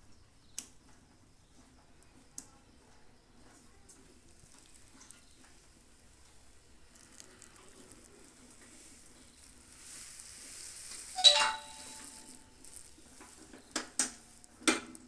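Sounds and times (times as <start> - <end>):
faint ticks of small parts: 0.0 - 15.0
faint hiss: 2.5 - 15.0.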